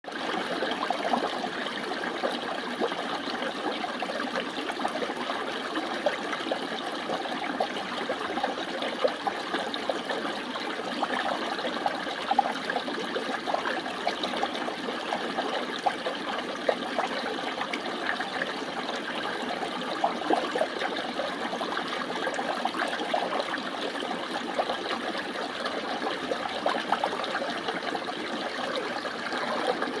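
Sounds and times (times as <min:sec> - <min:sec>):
water flowing and splashing: 0:00.1 - 0:30.0.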